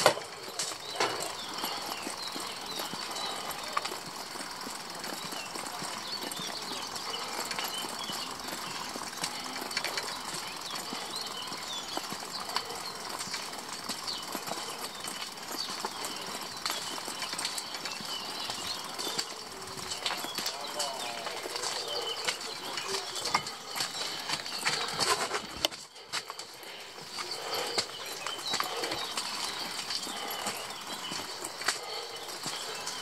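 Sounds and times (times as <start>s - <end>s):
vehicle rattling over stone paving: 0.0s - 33.0s.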